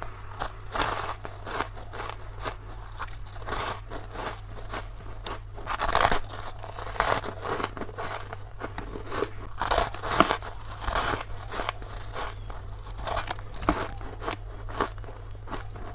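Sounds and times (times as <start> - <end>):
frost being crunched and chewed: 0.0 - 15.9
steady low hum: 0.0 - 15.9.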